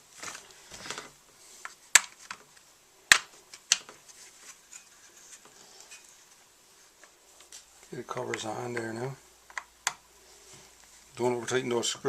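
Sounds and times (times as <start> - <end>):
light taps and handling noise: 0.2 - 12.0.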